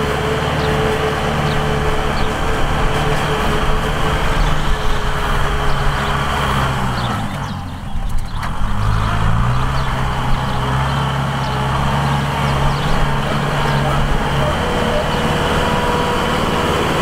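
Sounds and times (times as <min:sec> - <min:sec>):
rotary tiller churning soil: 0:00.0 - 0:17.0
tractor diesel engine running: 0:00.0 - 0:17.0.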